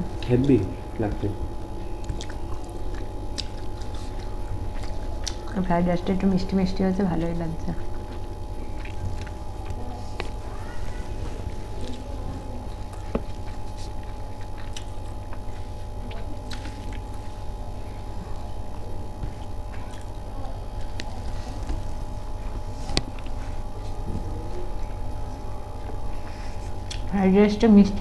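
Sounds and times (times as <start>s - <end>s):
steady low hum: 0.0s - 28.0s
person chewing food: 1.7s - 5.6s, 7.2s - 27.1s.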